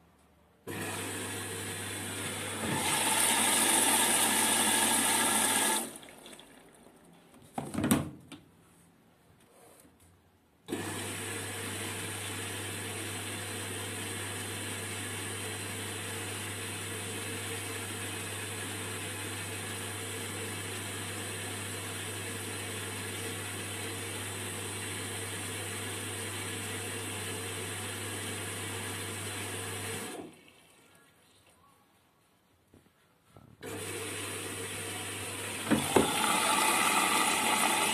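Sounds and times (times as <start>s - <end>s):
washing machine running: 0.7s - 6.8s, 10.7s - 30.7s, 33.6s - 37.9s.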